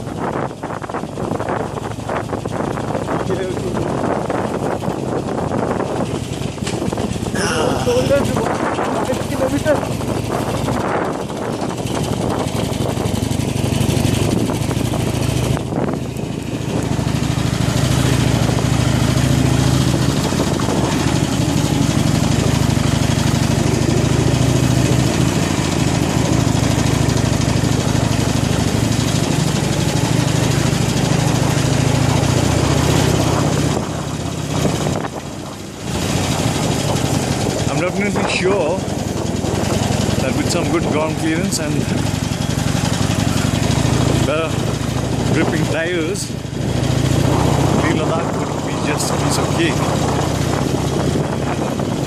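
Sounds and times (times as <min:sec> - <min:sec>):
motorcycle engine running: 0:00.0 - 0:52.0
wind and road noise: 0:00.0 - 0:52.0.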